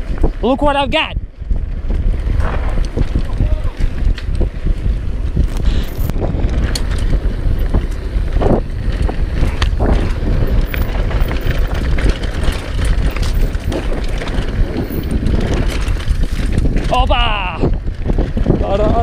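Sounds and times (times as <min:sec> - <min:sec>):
bike rattling and knocking: 0:00.0 - 0:19.0
tyres running over dirt: 0:00.0 - 0:19.0
wind buffeting microphone: 0:00.0 - 0:19.0.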